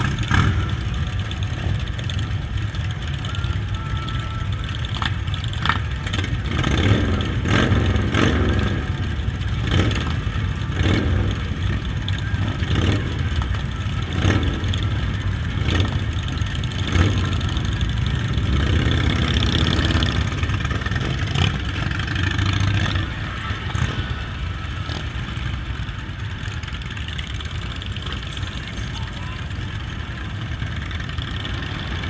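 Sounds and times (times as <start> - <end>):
motorcycle engines running: 0.0 - 32.0.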